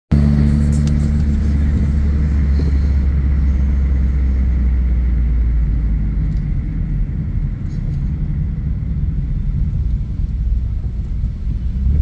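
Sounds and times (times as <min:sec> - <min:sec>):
car engine and road noise: 0:00.1 - 0:12.0.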